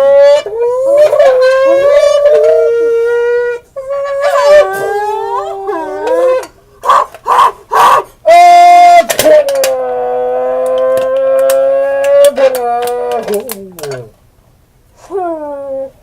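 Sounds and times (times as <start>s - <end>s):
tin-can call howling tones: 0.0s - 14.2s.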